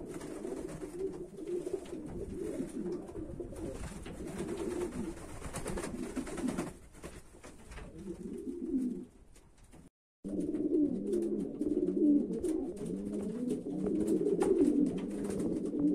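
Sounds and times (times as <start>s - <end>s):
pigeons cooing: 0.0s - 6.7s, 7.9s - 9.2s, 10.3s - 15.9s.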